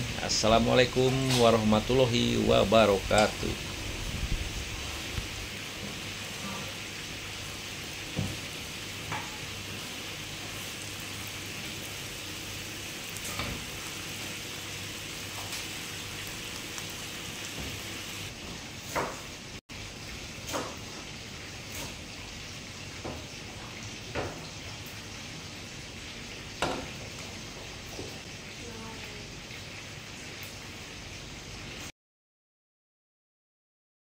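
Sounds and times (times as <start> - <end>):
chicken sizzling in a frying pan: 0.0 - 31.9.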